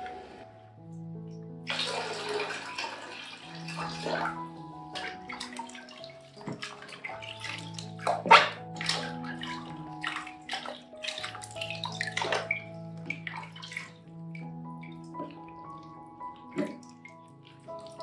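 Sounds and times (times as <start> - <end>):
water splashing and sloshing: 0.0 - 0.7, 1.3 - 18.0
background music: 0.0 - 18.0
water poured into plastic tub: 1.7 - 14.0, 14.6 - 18.0.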